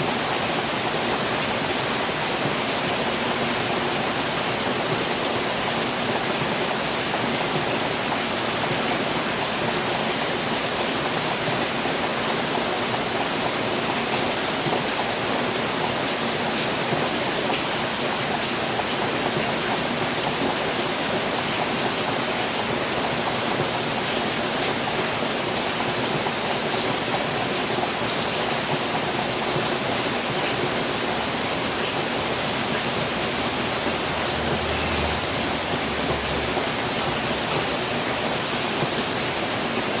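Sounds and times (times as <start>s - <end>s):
heavy rain on a roof: 0.0s - 40.0s.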